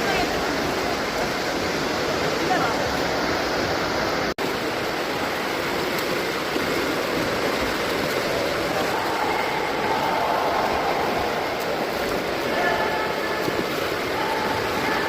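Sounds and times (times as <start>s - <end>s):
swimming pool water rushing: 0.0s - 15.0s.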